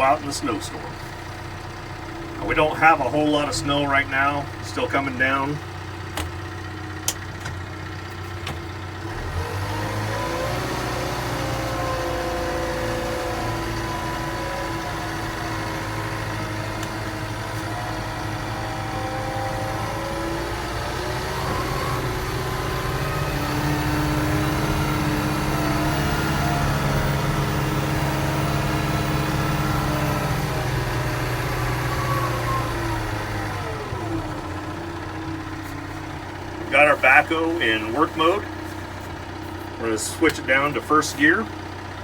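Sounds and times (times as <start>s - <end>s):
backhoe diesel engine running: 0.0s - 42.0s.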